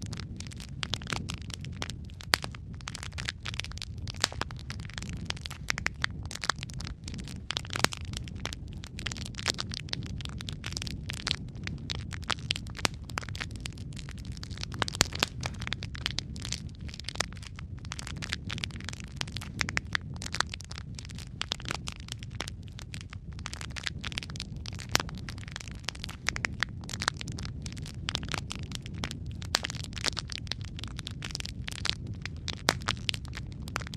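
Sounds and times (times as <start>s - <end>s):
low rumble of flames: 0.0s - 33.9s
wood fire crackling: 0.0s - 33.9s.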